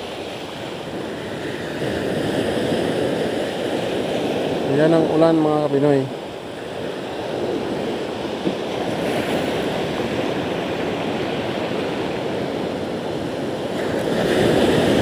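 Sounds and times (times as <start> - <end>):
surf washing up pebble shore: 0.0 - 15.0.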